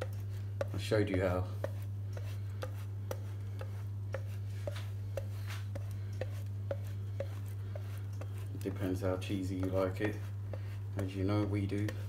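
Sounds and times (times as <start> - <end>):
cheese grating on metal grater: 0.0 - 12.0
low electrical hum: 0.0 - 12.0.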